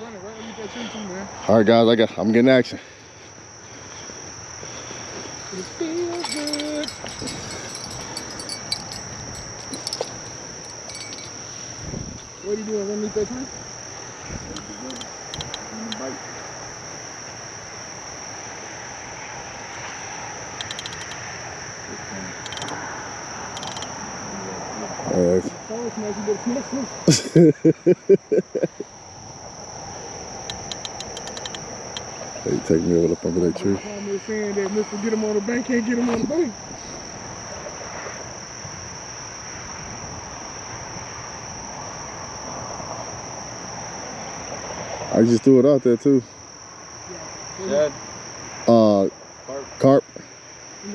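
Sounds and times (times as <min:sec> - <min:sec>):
insect chorus drone: 0:00.0 - 0:50.9
rapid insect chirps: 0:00.0 - 0:50.9.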